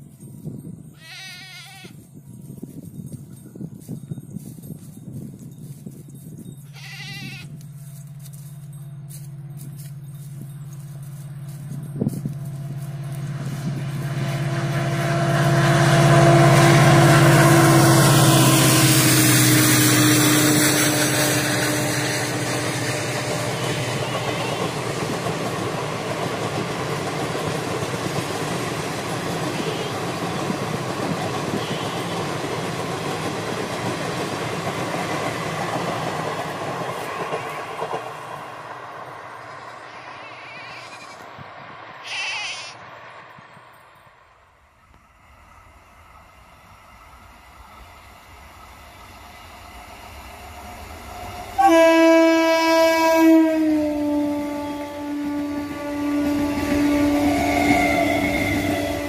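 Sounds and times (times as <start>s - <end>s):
coaches rumbling on rails: 1.8s - 59.0s
train passing at speed: 1.8s - 59.0s.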